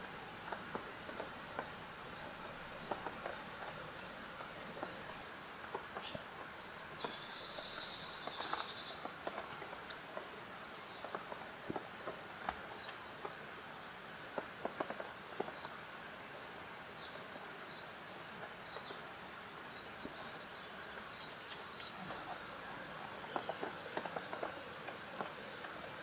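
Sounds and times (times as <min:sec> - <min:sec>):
small birds chirping: 0:00.0 - 0:26.0
steady hiss: 0:00.0 - 0:26.0.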